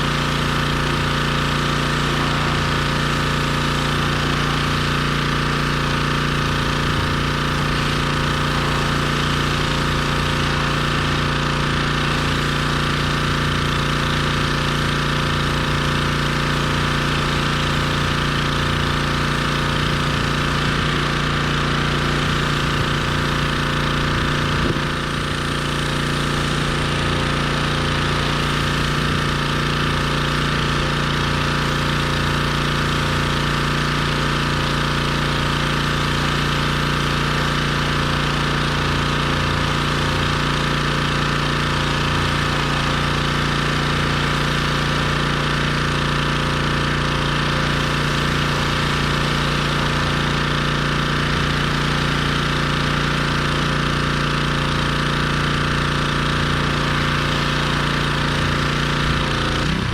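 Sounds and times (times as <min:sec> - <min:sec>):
pressure washer running: 0:00.0 - 0:59.9.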